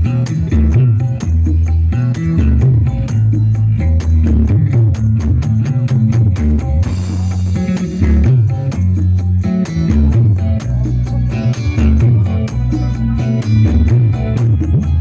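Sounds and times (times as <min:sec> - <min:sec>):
guitar music with heavy bass: 0:00.0 - 0:15.0.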